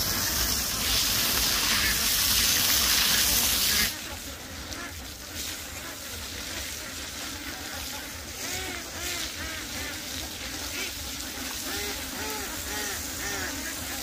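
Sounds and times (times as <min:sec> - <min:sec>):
ducks calling: 0:00.0 - 0:14.0
steady hiss: 0:00.0 - 0:14.0.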